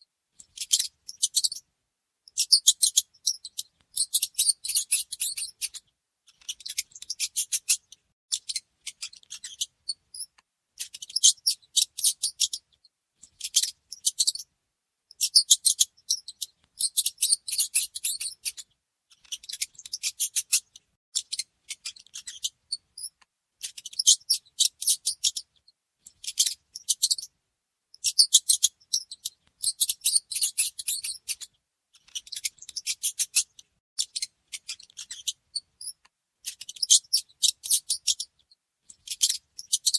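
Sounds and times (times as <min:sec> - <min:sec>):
mouse clicking and chattering: 0:00.4 - 0:01.6, 0:02.3 - 0:14.5, 0:15.1 - 0:27.3, 0:28.0 - 0:39.9.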